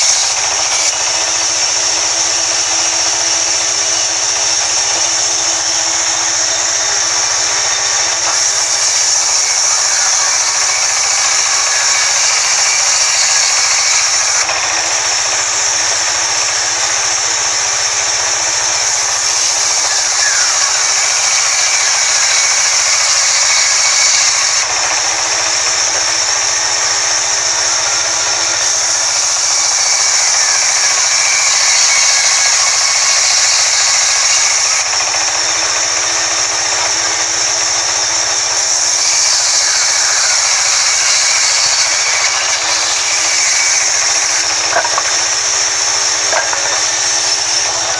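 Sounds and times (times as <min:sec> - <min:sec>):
band saw cutting wood: 0:00.0 - 0:47.9.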